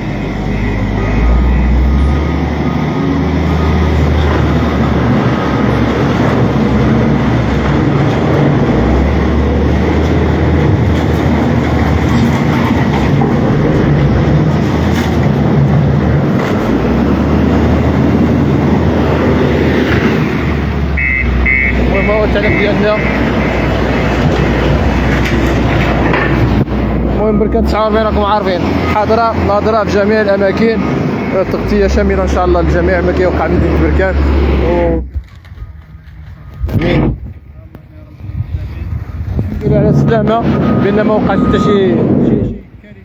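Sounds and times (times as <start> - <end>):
diesel machinery rumbling: 0.0 - 43.0.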